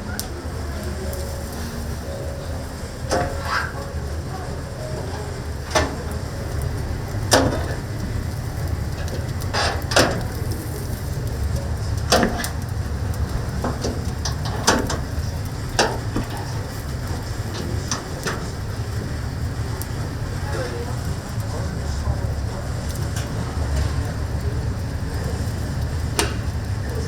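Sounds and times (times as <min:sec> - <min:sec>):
fire crackling and popping: 0:00.0 - 0:27.0
low oven rumble: 0:00.0 - 0:27.0.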